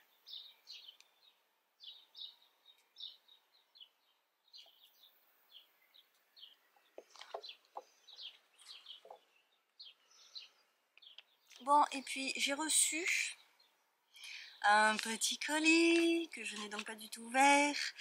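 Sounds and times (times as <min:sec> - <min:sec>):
faint bird chirping: 0:00.0 - 0:15.5.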